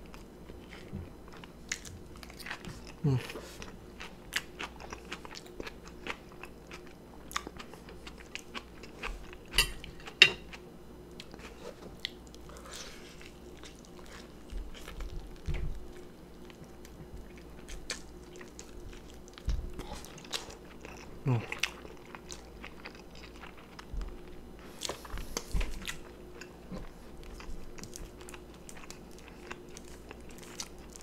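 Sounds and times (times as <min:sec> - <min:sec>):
chewing and biting food: 0:00.1 - 0:31.0.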